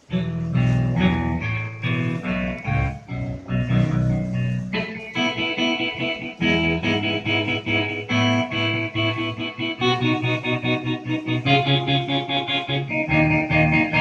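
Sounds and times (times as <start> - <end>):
held organ-like chords: 0.0 - 14.0
keyboard bass line: 0.0 - 14.0
keyboard plucked guitar voice: 0.0 - 14.0.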